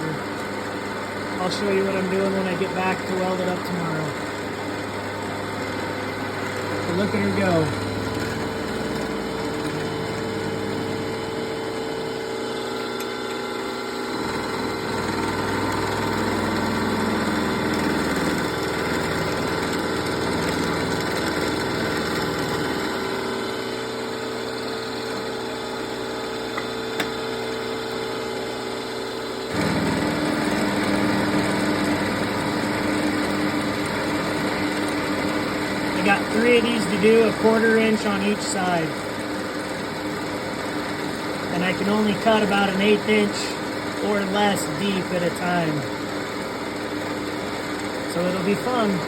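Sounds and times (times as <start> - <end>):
milling machine cutting steel: 0.0 - 49.0.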